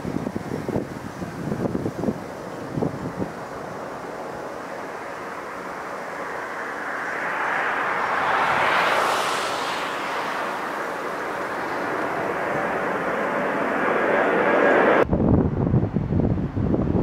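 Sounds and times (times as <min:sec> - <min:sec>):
jet airliner engines overhead: 0:00.0 - 0:17.0.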